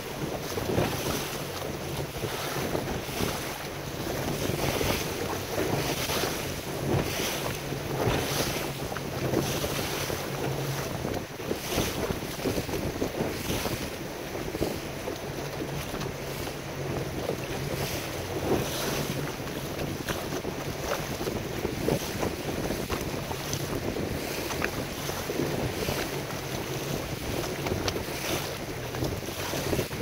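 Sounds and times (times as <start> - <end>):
low boat engine hum: 0.0 - 30.0
water slapping against hull: 0.0 - 30.0
wind buffeting microphone: 0.0 - 30.0.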